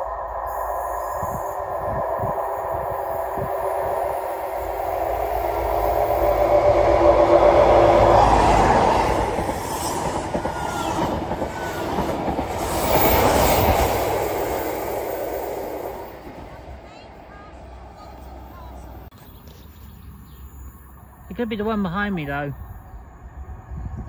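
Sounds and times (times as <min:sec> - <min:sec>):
diesel train engine drone: 0:00.0 - 0:19.1, 0:20.1 - 0:24.0.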